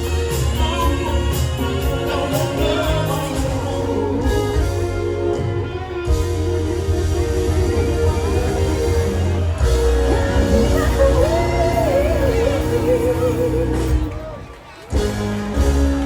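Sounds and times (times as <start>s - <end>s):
person singing: 0.0s - 15.0s
live band instrumental music: 0.0s - 16.0s.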